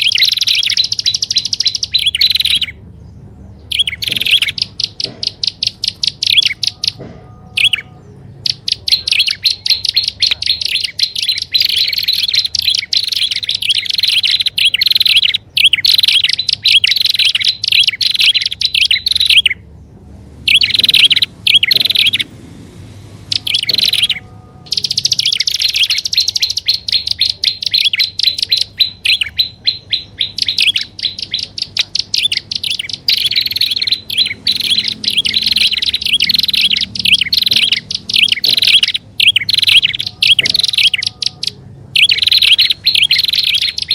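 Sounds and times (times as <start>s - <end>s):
bird sharp high chirps: 0.0s - 19.8s, 20.4s - 22.4s, 23.2s - 43.9s.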